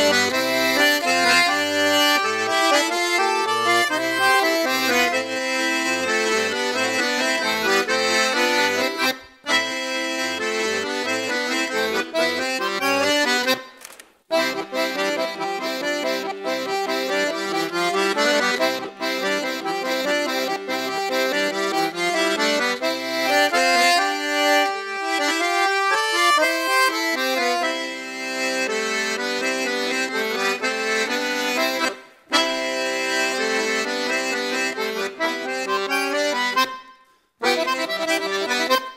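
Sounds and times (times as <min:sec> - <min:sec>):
lively accordion music: 0:00.0 - 0:38.9.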